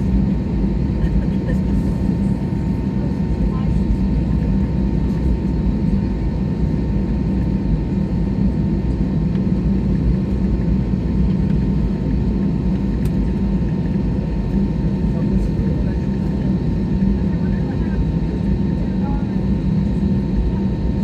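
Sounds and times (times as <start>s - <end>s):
jet engines at low power: 0.0s - 21.0s.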